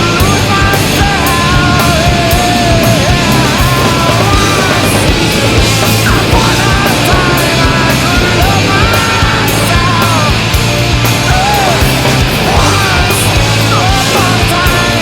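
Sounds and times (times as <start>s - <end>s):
hard rock music: 0.0s - 15.0s.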